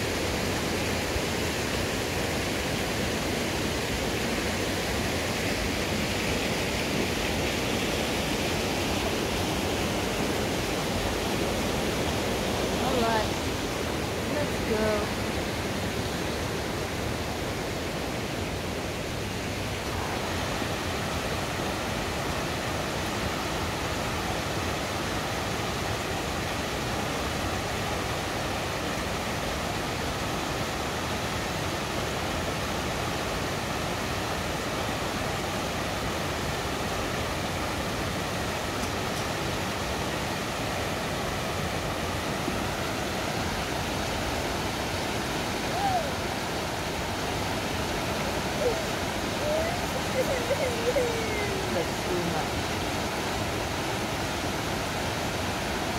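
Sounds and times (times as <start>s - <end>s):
creek rushing over boulders: 0.0s - 55.9s.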